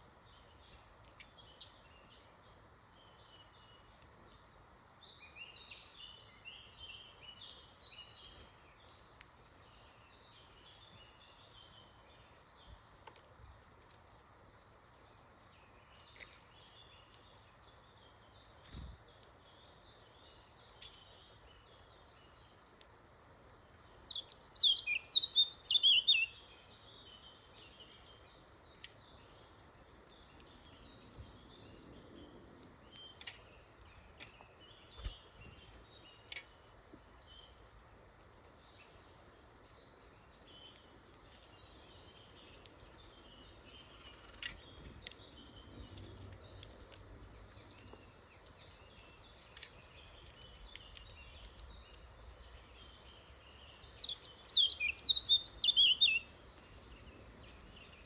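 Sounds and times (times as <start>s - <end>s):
background hiss: 0.0s - 58.0s
small birds chirping: 0.0s - 58.0s
songbird singing: 0.0s - 58.0s.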